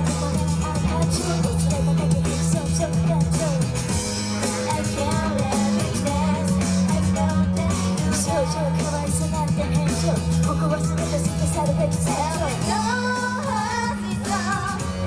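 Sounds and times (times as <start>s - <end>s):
live band with bass and drums: 0.0s - 15.0s
women singing pop-rock song: 0.0s - 15.0s.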